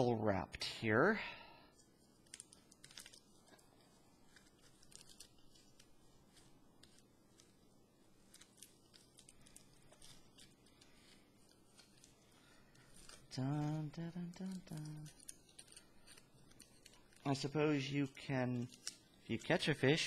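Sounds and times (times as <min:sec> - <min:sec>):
aluminium foil crinkling: 0:01.8 - 0:20.0.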